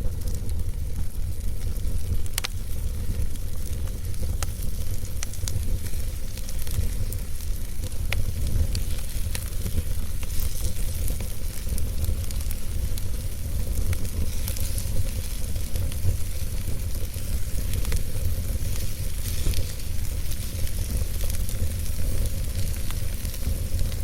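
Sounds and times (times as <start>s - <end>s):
logs crackling and popping: 0.0s - 24.0s
low fire rumble: 0.0s - 24.0s.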